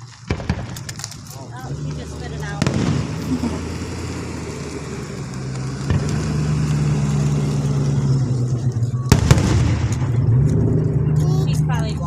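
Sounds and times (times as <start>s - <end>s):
vehicle engine humming: 0.0s - 12.0s
sharp bangs: 0.2s - 8.4s, 9.0s - 11.1s.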